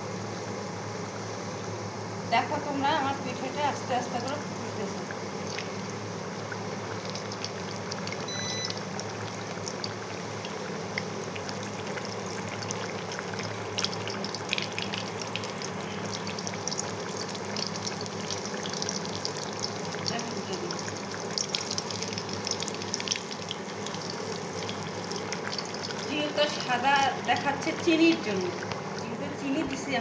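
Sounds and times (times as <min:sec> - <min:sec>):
batter deep-frying in oil: 0:00.0 - 0:30.0.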